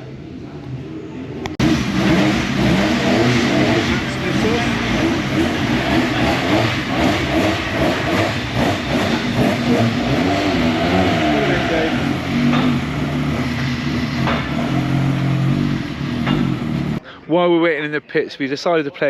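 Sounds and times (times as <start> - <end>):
truck engines revving: 1.4 - 17.0.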